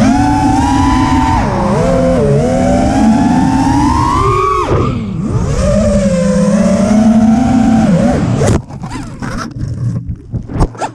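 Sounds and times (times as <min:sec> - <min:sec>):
quadcopter motors whining: 0:00.0 - 0:09.2.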